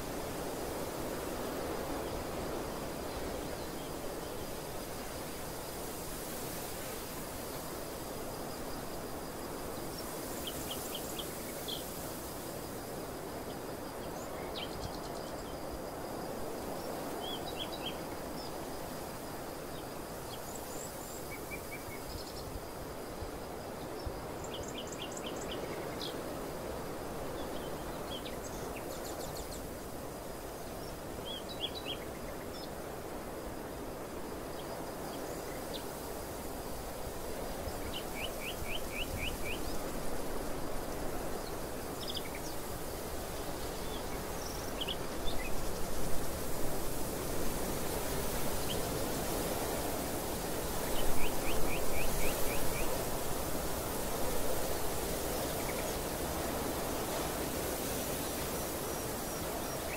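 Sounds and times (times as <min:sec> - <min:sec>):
rush of outdoor noise: 0:00.0 - 0:59.9.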